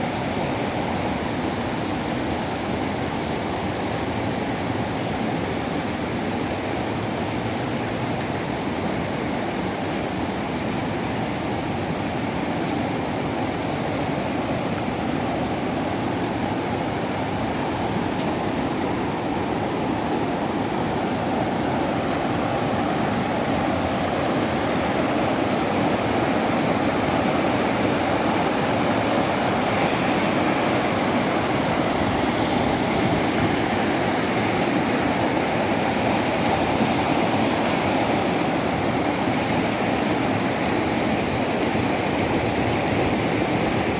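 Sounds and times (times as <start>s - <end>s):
waterfall rushing over rocks: 0.0s - 43.9s.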